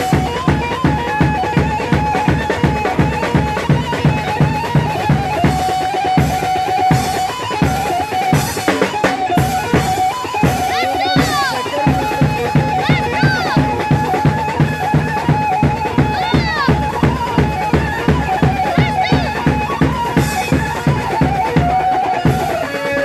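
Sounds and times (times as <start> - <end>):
driving drum beat: 0.0 - 23.0.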